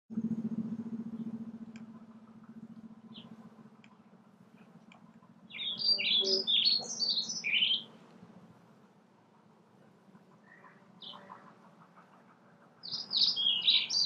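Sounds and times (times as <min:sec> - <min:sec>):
faint low hum: 0:00.1 - 0:14.0
songbird chirping: 0:00.1 - 0:14.0.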